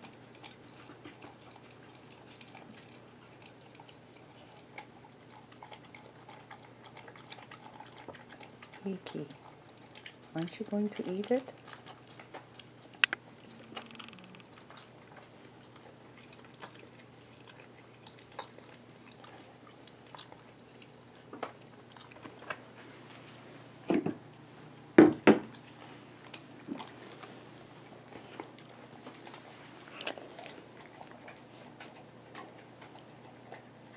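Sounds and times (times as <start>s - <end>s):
cat chewing food: 0.0s - 33.9s.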